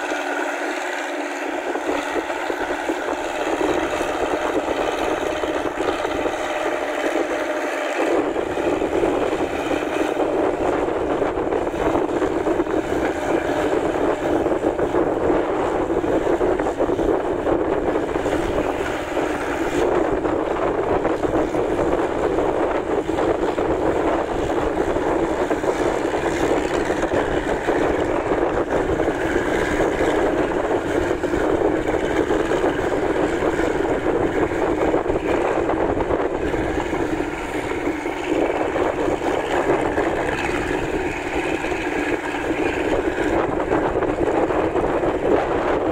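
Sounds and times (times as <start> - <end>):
tractor engine running under load: 0.0 - 45.9.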